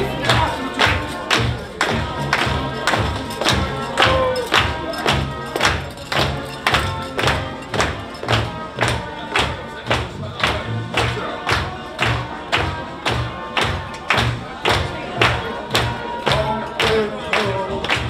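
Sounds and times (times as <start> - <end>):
upbeat dance music: 0.0 - 18.0.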